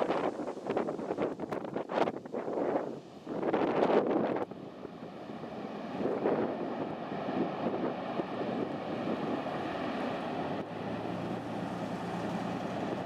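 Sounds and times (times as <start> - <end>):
jet engines running: 0.0 - 13.0
wind buffeting microphone: 0.0 - 13.0.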